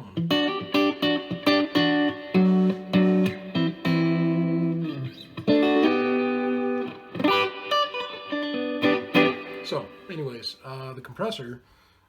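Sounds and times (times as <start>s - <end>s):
clean electric guitar: 0.0s - 10.5s.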